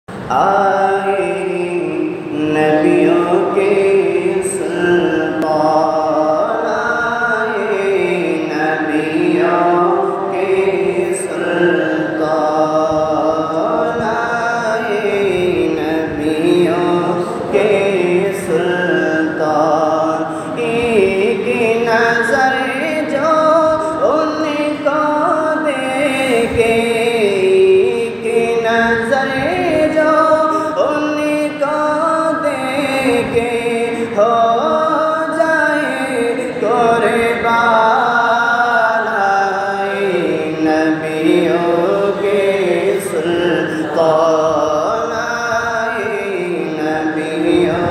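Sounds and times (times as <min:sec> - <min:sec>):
man singing devotional song: 0:00.1 - 0:47.9.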